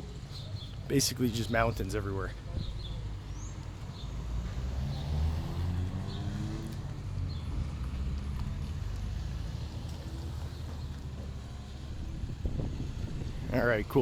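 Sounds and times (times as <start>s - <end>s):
road rumble: 0.0s - 14.0s.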